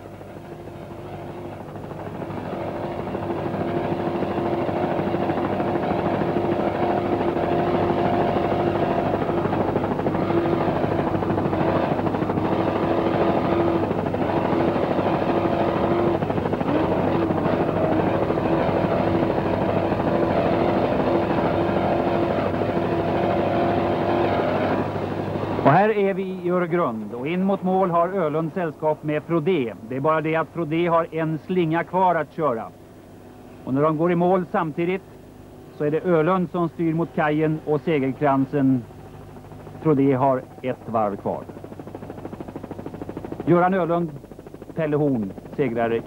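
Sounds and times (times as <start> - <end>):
engines droning: 0.0 - 31.8, 32.5 - 46.0.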